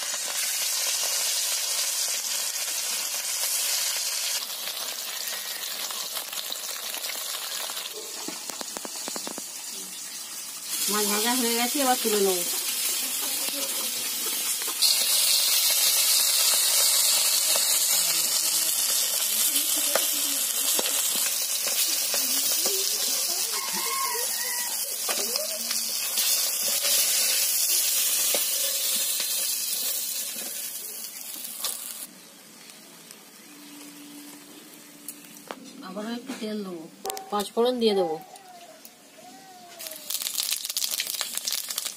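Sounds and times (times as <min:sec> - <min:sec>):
fish sizzling in hot oil: 0:00.0 - 0:32.1, 0:39.8 - 0:41.9.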